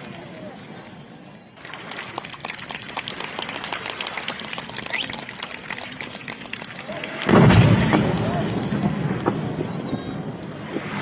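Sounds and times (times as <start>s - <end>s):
fireworks crackling: 1.6s - 11.0s.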